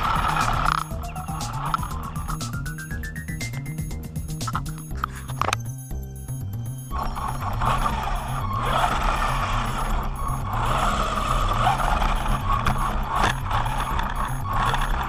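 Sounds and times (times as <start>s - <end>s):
background music with bass line: 0.0s - 15.0s
rc truck motor and tyres on asphalt: 0.0s - 15.0s.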